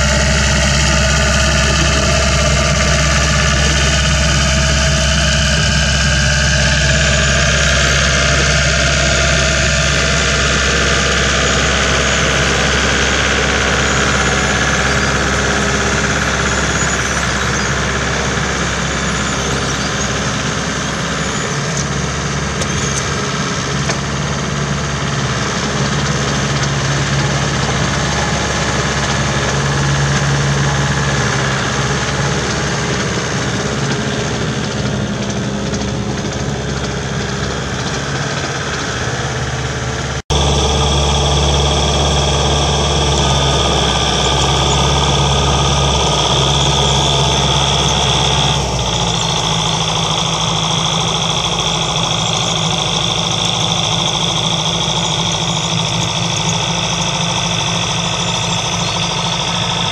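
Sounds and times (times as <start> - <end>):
rotary tiller rattling: 0.0 - 59.9
tractor engine running: 0.0 - 59.9.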